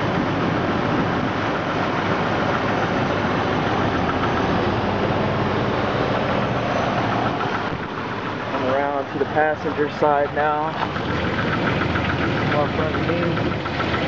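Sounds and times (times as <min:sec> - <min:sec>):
engine idling with rapid knock: 0:00.0 - 0:14.0.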